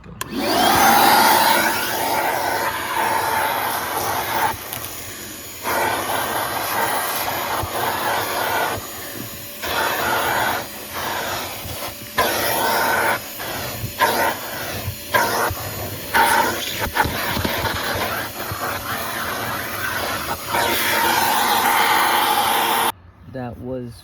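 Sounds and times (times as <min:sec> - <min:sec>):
shop vacuum running: 0:00.0 - 0:23.0.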